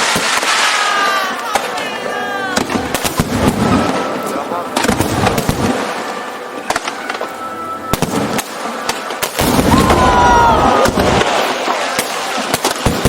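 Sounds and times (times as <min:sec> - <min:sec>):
fireworks bangs and crackling: 0:00.0 - 0:13.0
music playing: 0:01.0 - 0:12.4.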